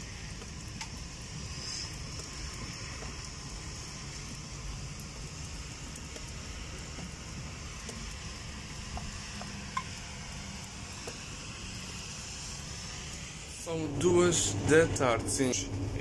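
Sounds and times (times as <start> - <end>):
outdoor hiss: 0.0 - 16.0
truck engine hum: 0.0 - 16.0.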